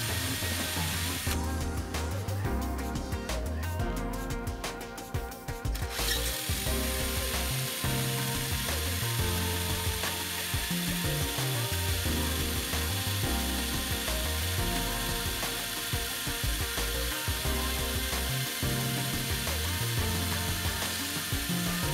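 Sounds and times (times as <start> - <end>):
drill bit grinding through metal: 0.0 - 1.5, 5.8 - 21.9.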